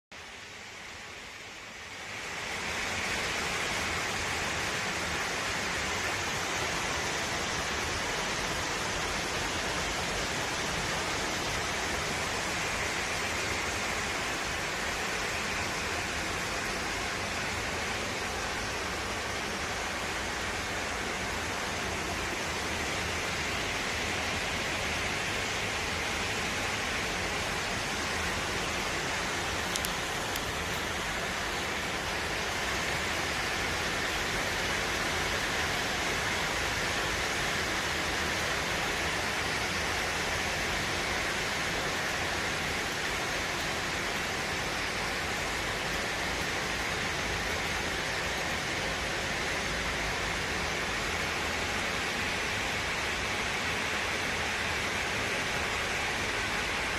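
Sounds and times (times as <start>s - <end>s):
steady rain: 0.1s - 56.9s.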